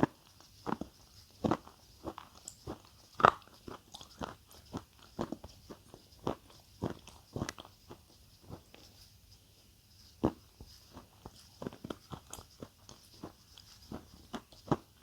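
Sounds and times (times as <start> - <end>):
person chewing crunchy food: 0.0 - 8.9, 10.1 - 15.0.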